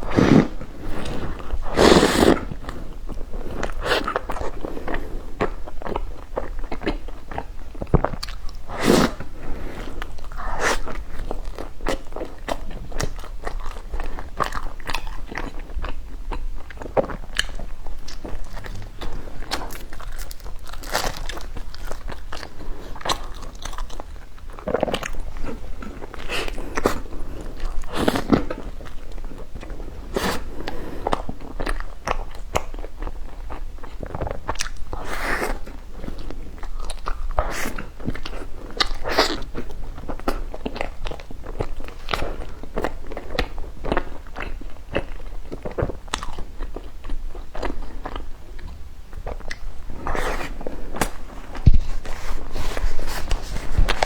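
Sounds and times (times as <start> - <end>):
person crunching and chewing: 9.8 - 54.0.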